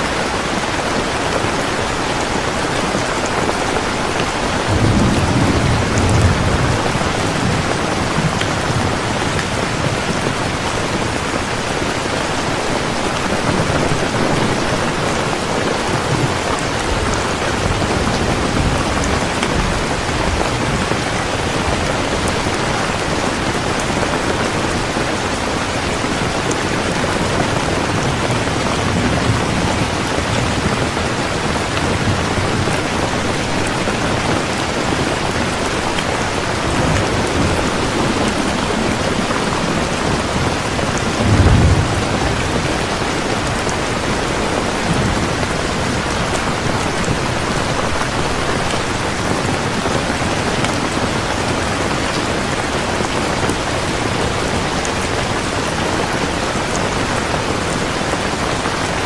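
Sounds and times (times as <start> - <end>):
heavy rain falling: 0.0 - 59.0
thunder rumbling: 0.2 - 11.9, 12.8 - 55.3.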